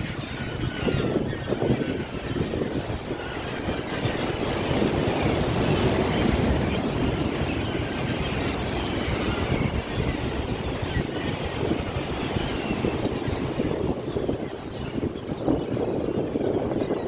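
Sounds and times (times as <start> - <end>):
wind rumbling on microphone: 0.0 - 17.0
sea waves washing on shore: 2.1 - 16.4.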